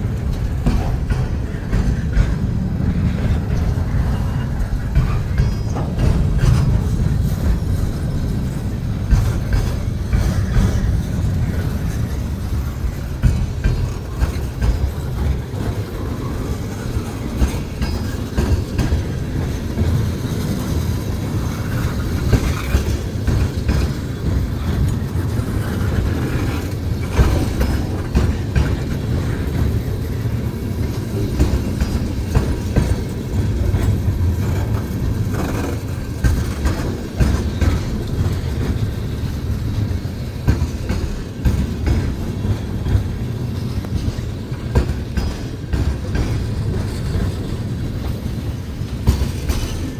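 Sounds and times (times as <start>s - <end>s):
clickety-clack of wheels on rail joints: 0.0s - 49.9s
train cars rumbling: 0.0s - 49.9s.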